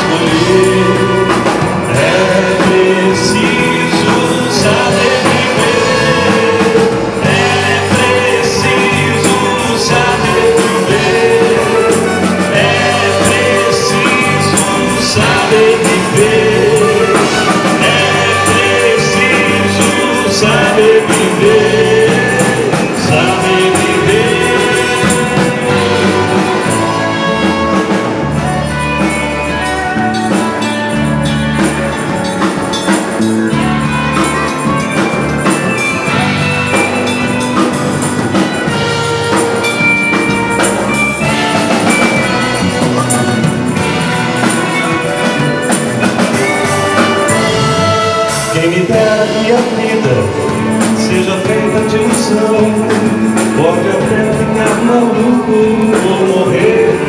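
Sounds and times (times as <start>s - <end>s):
live band playing: 0.0s - 57.0s
person singing: 0.0s - 57.0s.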